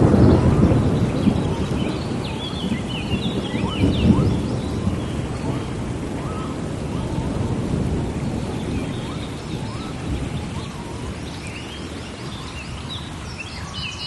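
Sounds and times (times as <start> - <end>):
rolling thunder: 0.0 - 13.7
steady rain: 0.0 - 14.0.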